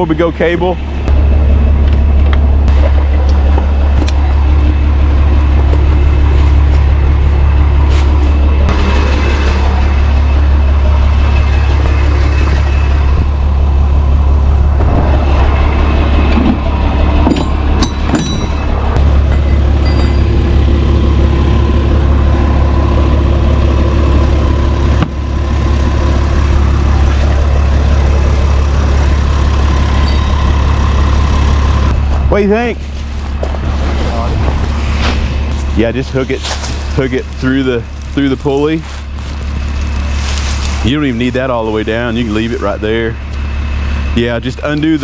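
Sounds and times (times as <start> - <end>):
truck engine idling: 0.0 - 45.0.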